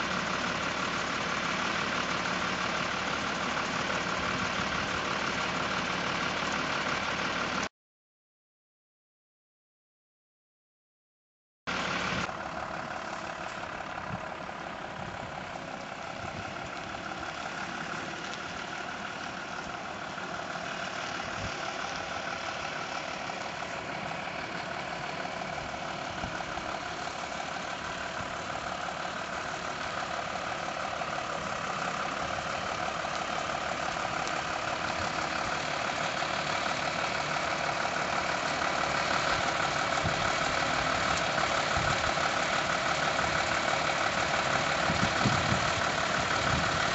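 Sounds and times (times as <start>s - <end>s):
lorry diesel engine running: 0.0s - 7.7s, 11.7s - 46.9s.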